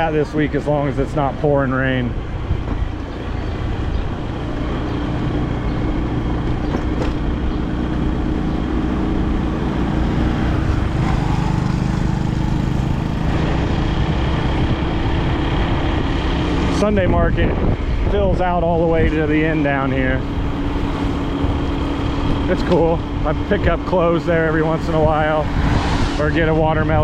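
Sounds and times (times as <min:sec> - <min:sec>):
road noise: 0:00.0 - 0:27.0
vehicle engine hum: 0:00.0 - 0:27.0.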